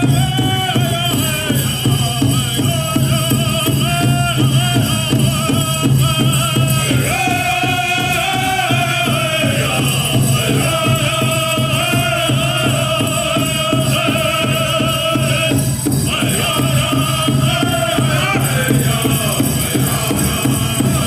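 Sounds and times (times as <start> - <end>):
steady drumbeat: 0.0 - 21.0
voices singing in unison: 0.0 - 21.0.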